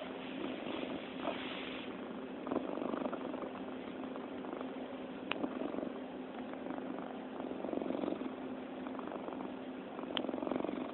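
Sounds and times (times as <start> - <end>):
cat purring: 0.0 - 10.9.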